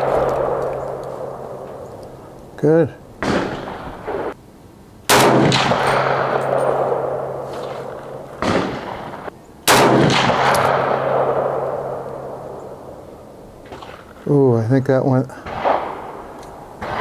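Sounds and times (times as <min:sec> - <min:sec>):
rifle shots echoing: 0:00.0 - 0:04.4, 0:05.1 - 0:14.2, 0:15.3 - 0:17.0.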